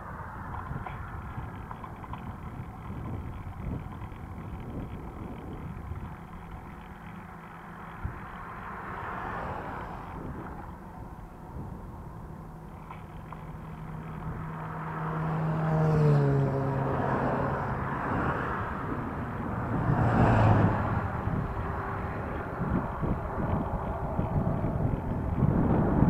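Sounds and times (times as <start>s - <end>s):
steady road hiss: 0.0s - 26.0s
vehicles passing: 0.0s - 26.0s.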